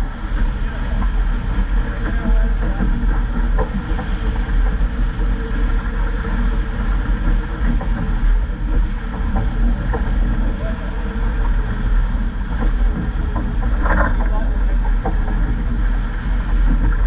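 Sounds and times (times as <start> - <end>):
water rushing along boat hull: 0.0 - 17.0
wind noise on microphone: 0.0 - 17.0.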